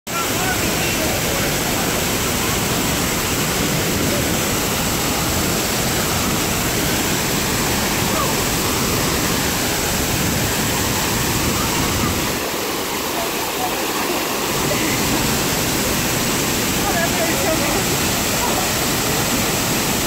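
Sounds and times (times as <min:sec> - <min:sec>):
waterfall rushing: 0:00.1 - 0:20.0.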